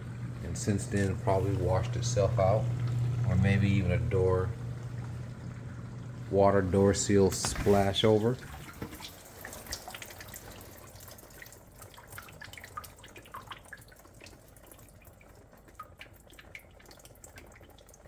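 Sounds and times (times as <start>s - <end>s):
dishwasher water splashing: 0.0s - 18.0s.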